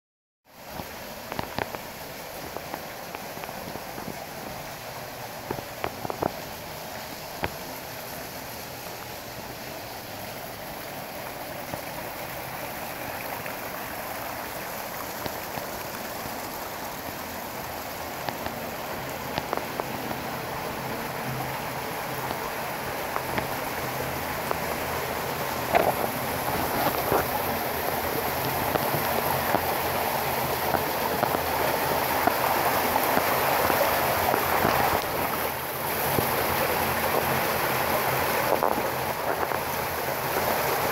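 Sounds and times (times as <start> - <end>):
water splashing down waterfall: 0.5 - 40.9.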